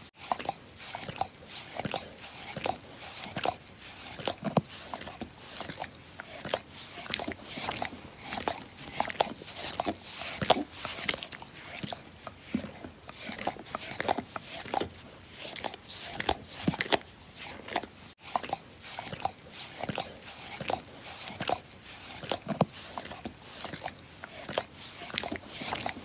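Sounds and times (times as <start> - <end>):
dog licking: 0.3 - 26.0.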